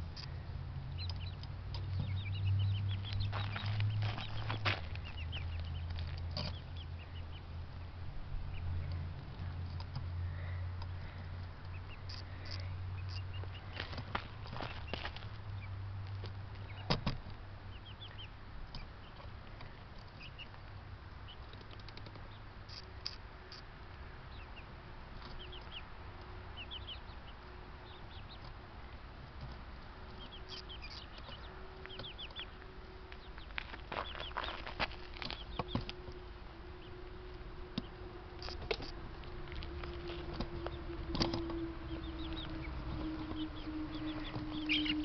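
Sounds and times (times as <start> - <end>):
chickens clucking: 0.0 - 45.0
faint steady hum: 0.0 - 45.0.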